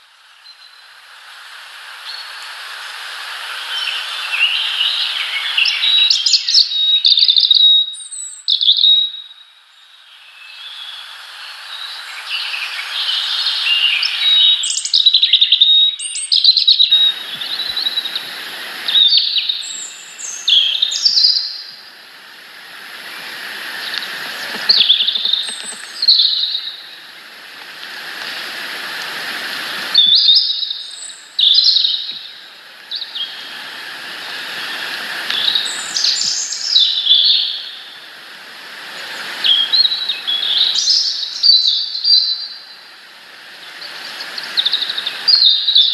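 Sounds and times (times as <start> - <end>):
background hiss: 0.0 - 45.9
songbirds chirping: 2.0 - 45.9.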